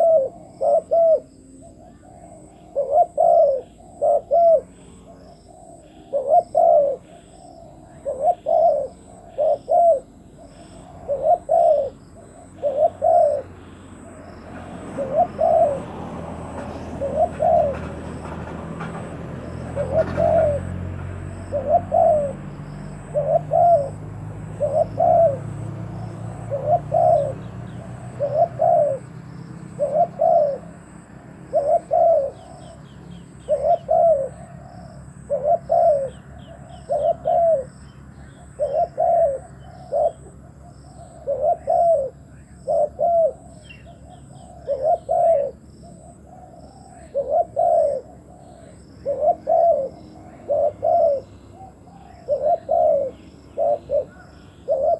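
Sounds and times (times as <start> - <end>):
dove cooing: 0.0 - 54.9
small birds chirping: 0.0 - 54.9.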